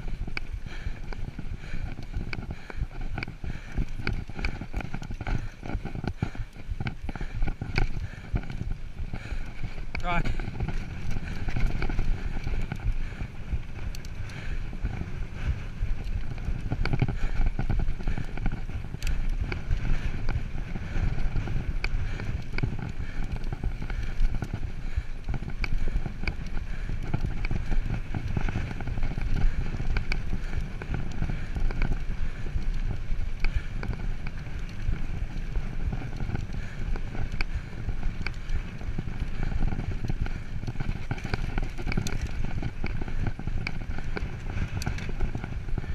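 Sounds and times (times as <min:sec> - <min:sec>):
bike rattles and clicks: 0:00.0 - 0:45.9
bike tyres rumbling on dirt: 0:00.0 - 0:45.9
wind on microphone: 0:00.0 - 0:45.9.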